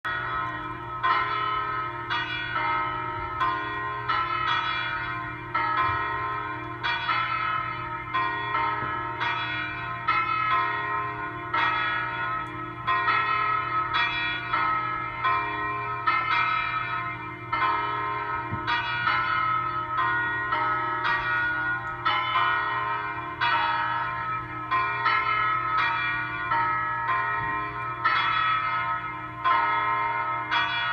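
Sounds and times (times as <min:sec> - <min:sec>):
church bells pealing: 0:00.1 - 0:30.9.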